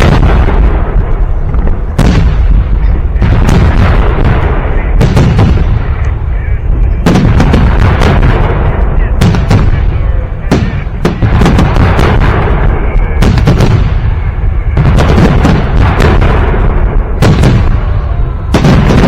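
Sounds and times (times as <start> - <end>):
echoing detonation rumble: 0.0 - 19.0
fireworks booms and cracks: 0.0 - 19.0.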